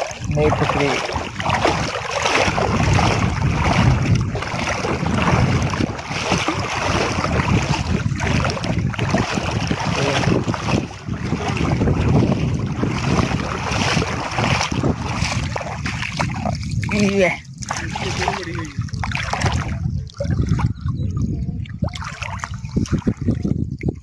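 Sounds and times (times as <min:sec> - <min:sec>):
water sloshing and splashing: 0:00.0 - 0:24.0
wind on microphone: 0:00.0 - 0:24.0.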